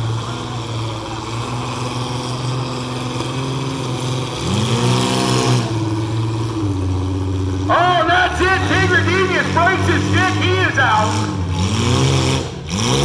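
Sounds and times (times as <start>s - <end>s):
car engines running: 0.0s - 13.0s
engine revving: 0.0s - 13.0s.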